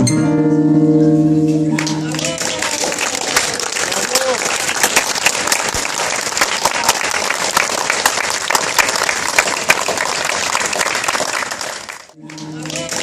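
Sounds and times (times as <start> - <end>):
crowd applauding: 1.7 - 13.0.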